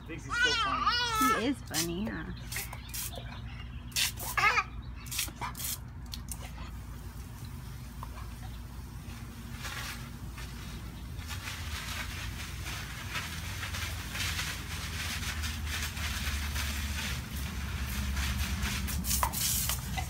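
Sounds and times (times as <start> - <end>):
garden hose spraying water: 0.0 - 20.0.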